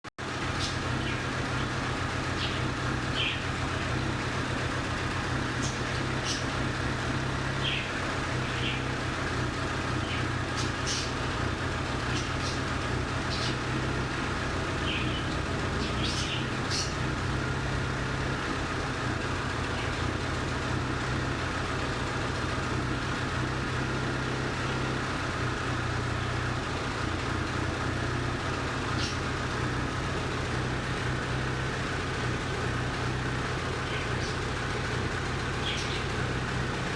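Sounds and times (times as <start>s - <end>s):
car engine idling with misfire: 0.2s - 36.9s.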